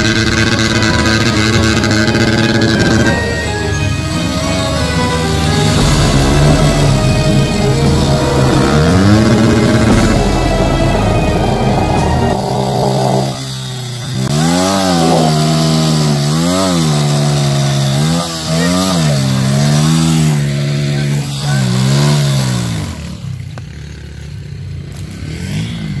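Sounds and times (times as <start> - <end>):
dirt bike engine revving: 0.0 - 24.2.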